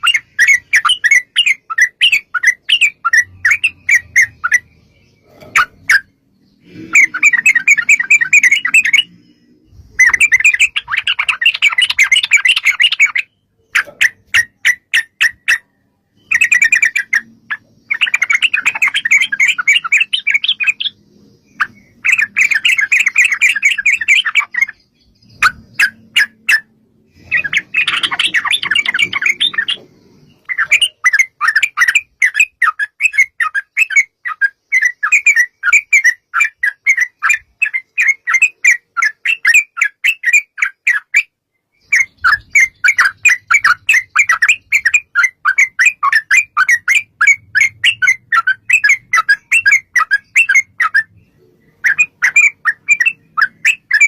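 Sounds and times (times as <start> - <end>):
bulbuls chattering song: 0.0 - 54.0
rapid repeated bird notes: 0.0 - 54.0.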